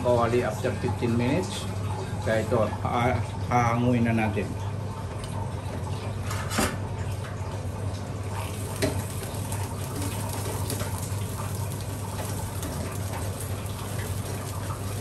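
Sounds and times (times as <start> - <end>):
deep-frying sizzle in oil: 0.0 - 15.0.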